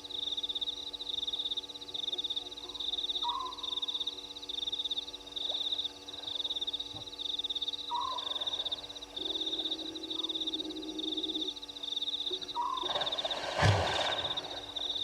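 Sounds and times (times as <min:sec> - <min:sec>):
frog low steady trill: 0:00.0 - 0:13.4
frogs pulsing high trill: 0:00.0 - 0:15.0.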